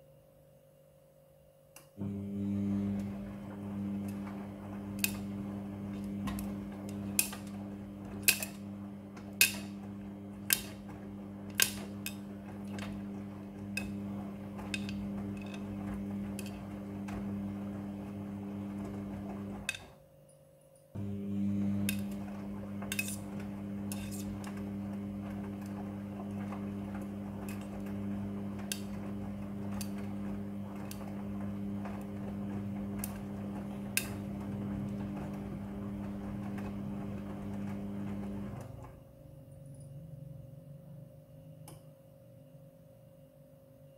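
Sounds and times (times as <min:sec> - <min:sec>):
washing machine motor hum: 0:01.9 - 0:20.2, 0:20.9 - 0:41.7.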